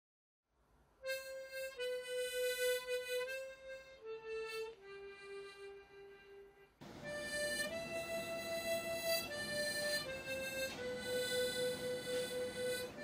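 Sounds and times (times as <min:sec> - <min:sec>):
harmonica playing slow melody: 0:01.0 - 0:13.0.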